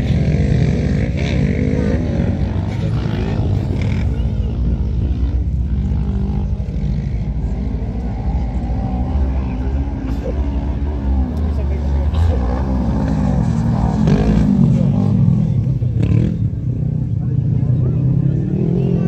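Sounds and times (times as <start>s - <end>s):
buggy engines racing: 0.0s - 19.0s.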